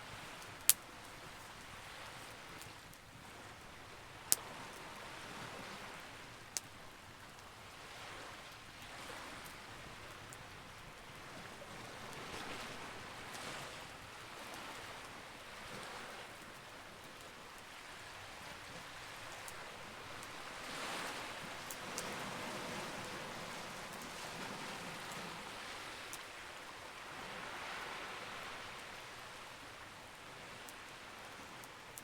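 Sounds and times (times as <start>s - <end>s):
sea waves: 0.0s - 10.6s, 11.2s - 31.7s
campfire crackling: 0.0s - 32.0s.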